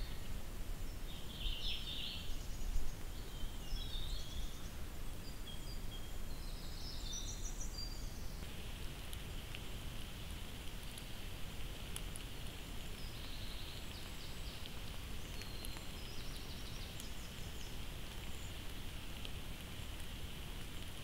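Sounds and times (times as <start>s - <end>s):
faint woodland ambience: 0.0s - 21.0s
microphone hiss: 0.0s - 21.0s.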